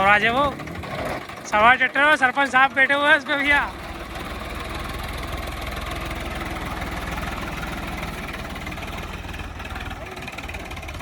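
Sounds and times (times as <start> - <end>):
diesel engine throbbing: 0.0 - 11.0.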